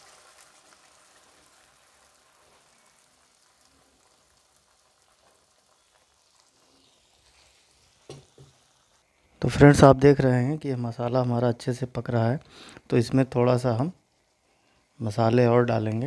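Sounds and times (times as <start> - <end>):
faint sizzling in a pan: 0.0 - 16.0.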